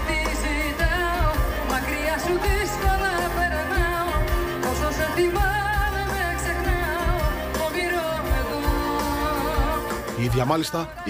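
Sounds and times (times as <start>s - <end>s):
woman singing with vibrato: 0.0s - 10.0s
band with steady bass beat: 0.0s - 11.0s.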